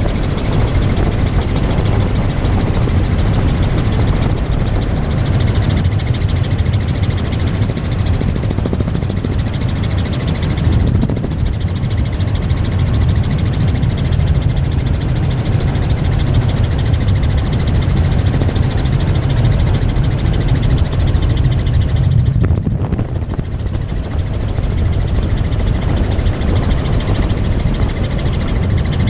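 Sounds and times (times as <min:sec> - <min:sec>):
helicopter engine and rotor: 0:00.0 - 0:29.0
high turbine whine: 0:00.0 - 0:29.0.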